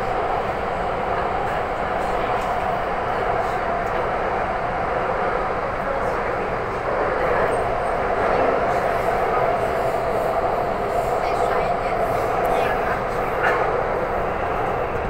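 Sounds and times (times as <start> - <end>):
metro train running: 0.0 - 15.0.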